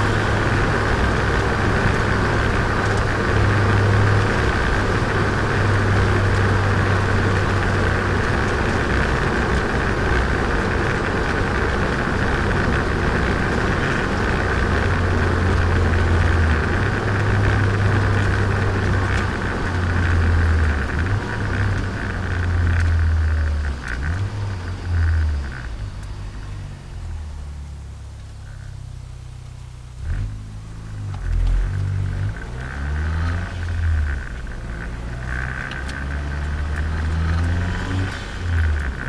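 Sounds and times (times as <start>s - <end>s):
car engine and exhaust drone: 0.0s - 39.0s.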